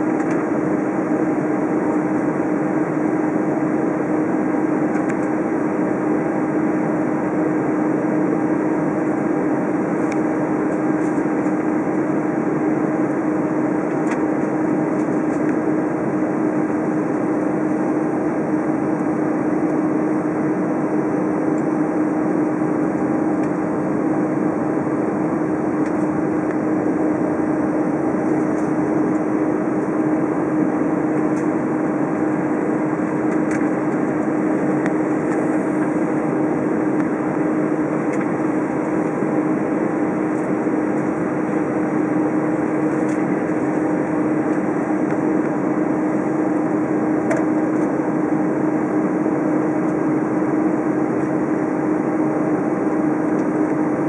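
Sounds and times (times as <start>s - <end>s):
aircraft cabin hum: 0.0s - 54.0s.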